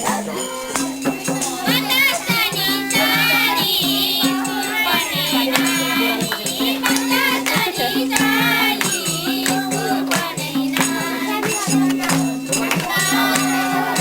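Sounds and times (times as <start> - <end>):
rattling percussion: 0.0 - 14.0
voices singing: 0.0 - 14.0.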